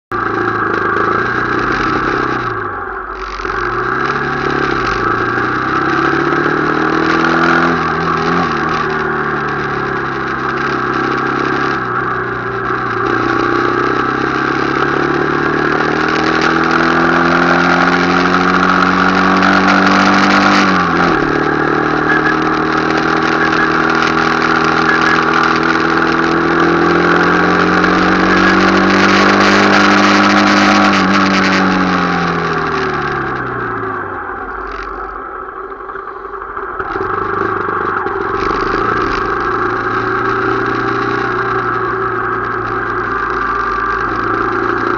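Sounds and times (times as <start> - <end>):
motorcycle engine revving: 0.1 - 44.9.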